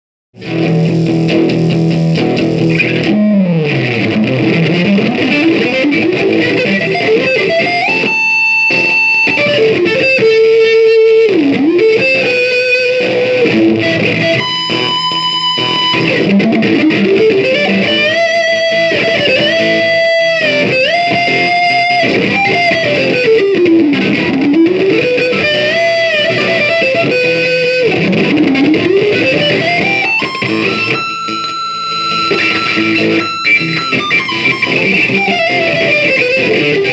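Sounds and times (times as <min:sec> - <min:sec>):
electric guitar sliding melody: 0:00.4 - 0:36.9.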